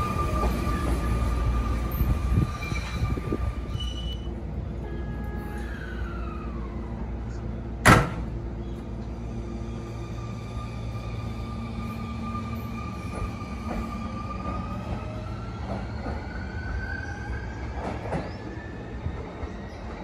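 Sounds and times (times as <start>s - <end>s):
train humming at platform: 0.0s - 20.0s.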